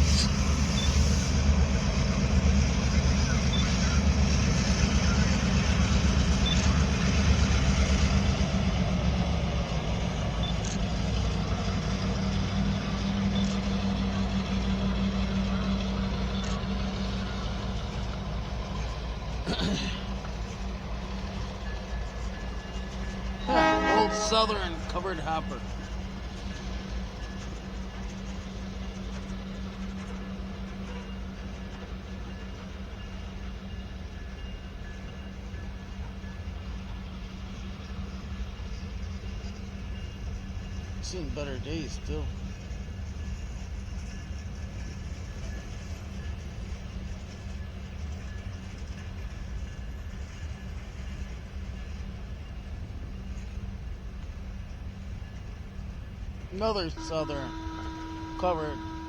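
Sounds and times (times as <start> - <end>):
freight cars rolling on rails: 0.0 - 59.0
train diesel hum: 0.0 - 59.0.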